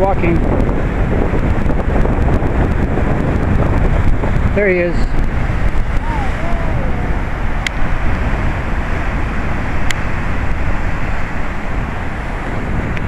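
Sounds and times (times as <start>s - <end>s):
surf churning against rocks: 0.0s - 13.0s
wind buffeting microphone: 0.0s - 13.0s.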